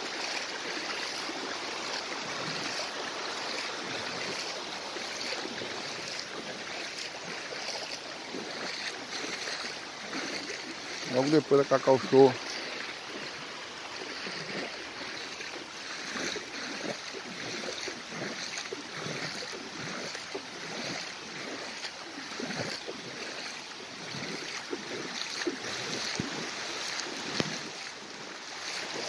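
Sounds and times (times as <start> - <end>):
legs sloshing through water: 0.0 - 29.0
water rushing: 0.0 - 29.0.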